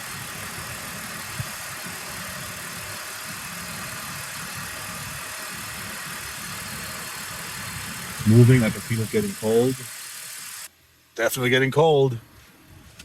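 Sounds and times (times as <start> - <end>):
air conditioning compressor running: 0.0 - 10.7
car engine idling: 0.0 - 10.7.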